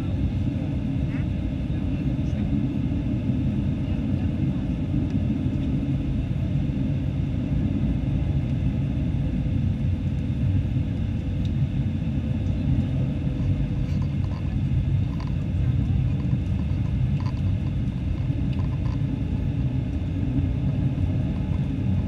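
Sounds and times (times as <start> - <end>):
aircraft cabin rumble: 0.0 - 22.0
faint steady whining tones: 0.0 - 22.0.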